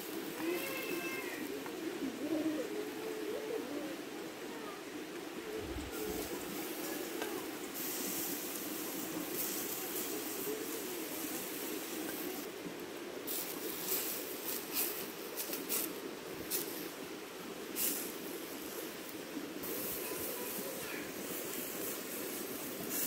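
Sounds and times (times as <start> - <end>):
charcoal embers crackling and popping: 0.0 - 2.7, 5.1 - 23.0
steady rushing noise: 4.0 - 23.0.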